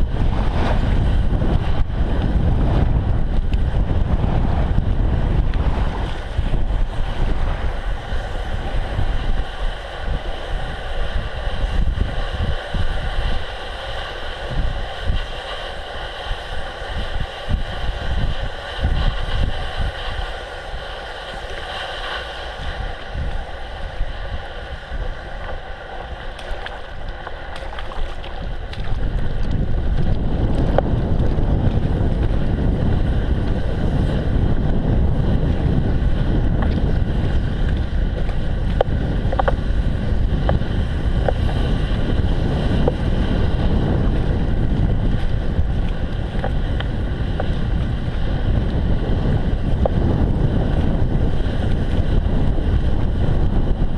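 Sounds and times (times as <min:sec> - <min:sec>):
bicycle tyres on slush: 0:00.0 - 0:53.9
wind on the microphone: 0:00.0 - 0:53.9.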